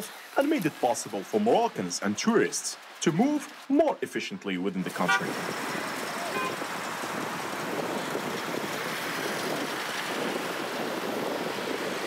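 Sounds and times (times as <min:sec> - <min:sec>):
street ambience hiss: 0:00.0 - 0:12.0.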